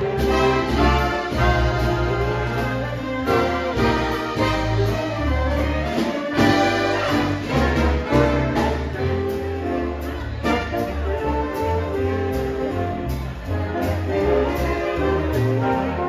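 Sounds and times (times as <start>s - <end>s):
big band playing swing: 0.0s - 16.0s.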